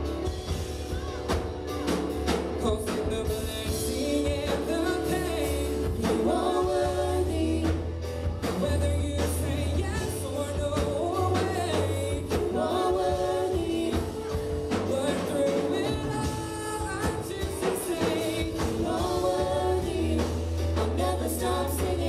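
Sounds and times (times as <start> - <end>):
drum kit: 0.0 - 22.0
electric bass guitar: 0.0 - 22.0
people singing: 0.5 - 22.0.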